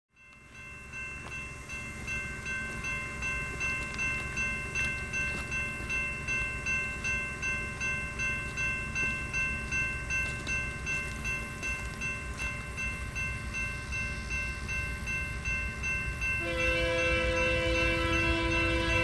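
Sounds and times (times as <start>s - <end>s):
crossing warning bell ringing: 0.1s - 19.0s.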